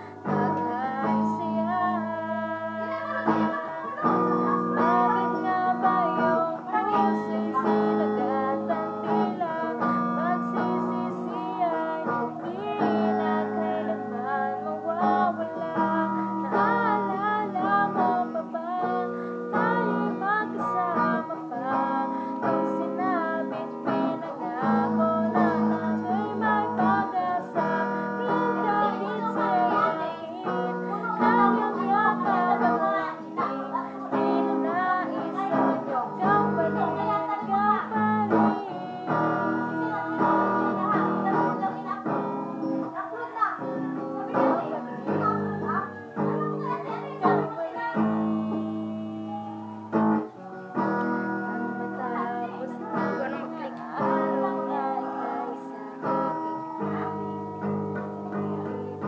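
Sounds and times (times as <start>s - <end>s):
electric guitar lead line: 0.0s - 59.0s
pop ballad backing track: 0.0s - 59.0s.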